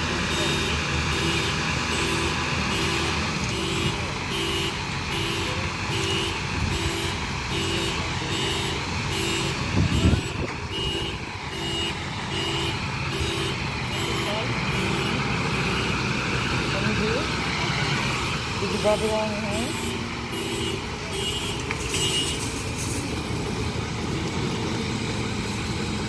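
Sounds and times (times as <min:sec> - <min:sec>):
minibus engine idling: 0:00.0 - 0:26.0
vehicle warning beeper: 0:00.1 - 0:22.5.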